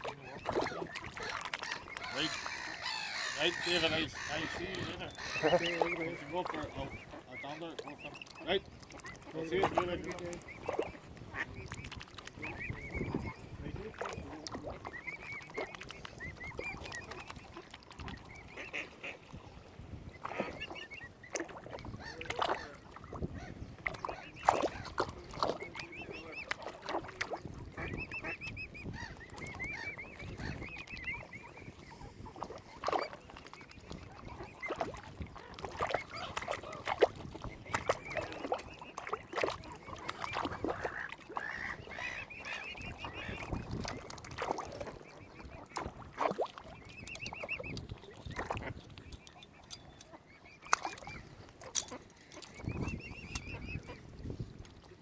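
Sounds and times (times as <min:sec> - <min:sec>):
waterfowl calling: 0:00.0 - 0:54.7.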